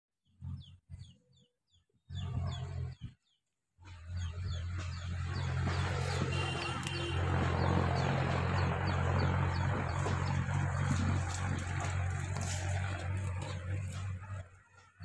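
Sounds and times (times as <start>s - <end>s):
bird chirping: 0.2s - 14.4s.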